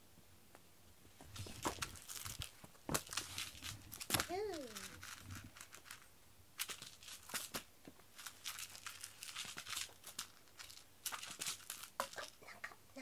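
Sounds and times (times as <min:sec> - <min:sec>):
cat toy crackling and rustling: 0:01.2 - 0:12.6.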